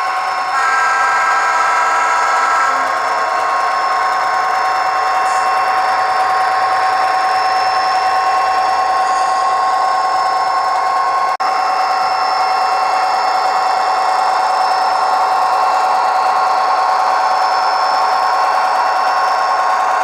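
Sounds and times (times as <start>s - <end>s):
diesel engine drone from small speaker: 0.0s - 20.0s.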